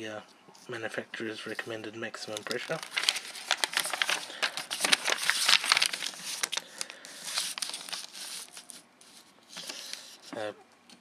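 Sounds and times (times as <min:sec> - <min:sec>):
paper pages rustling: 0:01.4 - 0:10.3.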